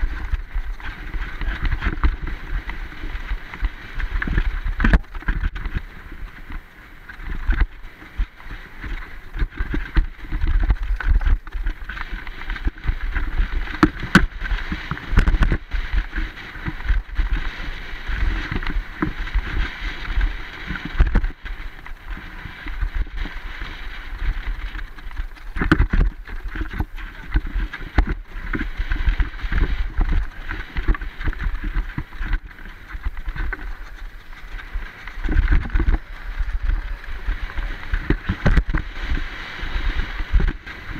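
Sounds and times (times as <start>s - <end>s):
bike knocking and rattling: 0.0s - 40.9s
bike tyres rumbling on dirt: 0.0s - 40.9s
wind on microphone: 0.0s - 40.9s.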